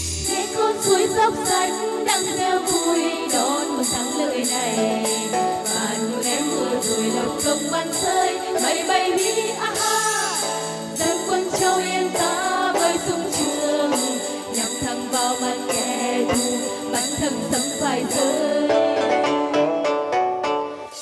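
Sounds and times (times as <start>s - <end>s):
jingling percussion beat: 0.0s - 18.7s
backing music: 0.0s - 21.0s
women singing: 0.3s - 19.5s.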